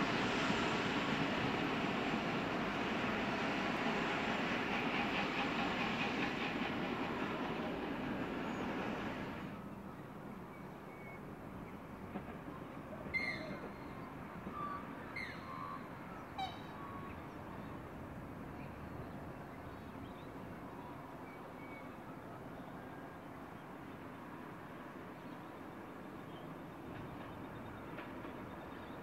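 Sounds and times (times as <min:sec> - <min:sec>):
distant railcar rumble: 0:00.0 - 0:29.0.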